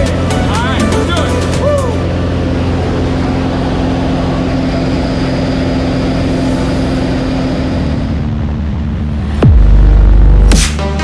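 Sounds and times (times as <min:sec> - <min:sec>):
airplane propeller engine drone: 0:00.0 - 0:11.0.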